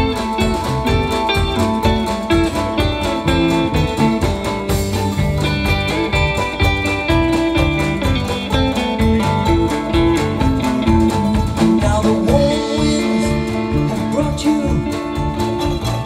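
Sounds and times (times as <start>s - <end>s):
acoustic folk band playing: 0.0s - 16.0s.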